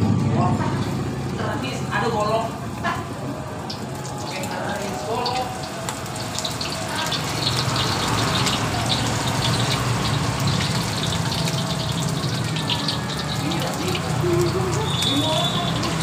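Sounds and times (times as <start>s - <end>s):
oil sizzling and crackling: 0.5s - 16.0s.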